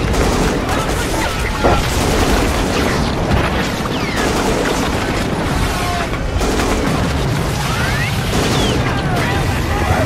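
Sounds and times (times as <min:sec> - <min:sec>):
gunfire: 0:00.0 - 0:09.6
booming explosions: 0:00.0 - 0:10.0.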